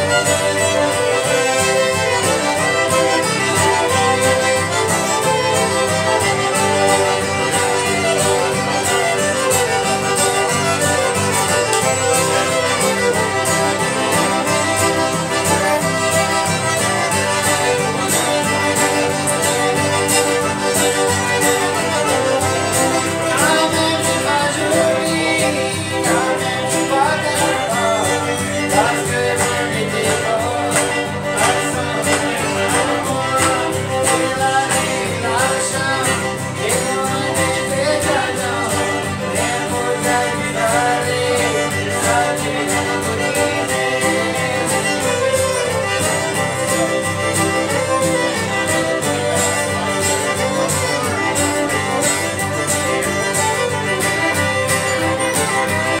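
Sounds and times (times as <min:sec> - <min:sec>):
acoustic guitar strumming: 0:00.0 - 0:56.0
fiddle melody: 0:00.0 - 0:56.0.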